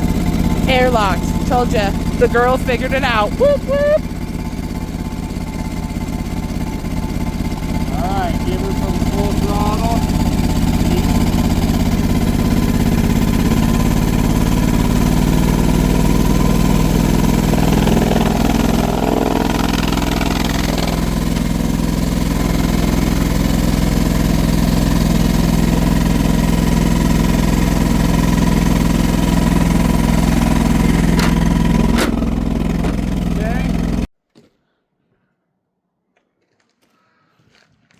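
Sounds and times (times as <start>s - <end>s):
mower engine running: 0.0s - 34.1s.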